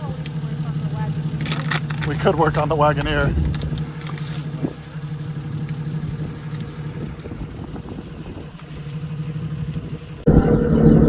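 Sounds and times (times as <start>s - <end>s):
light rattles: 0.0s - 10.2s
car engine running: 0.0s - 11.0s.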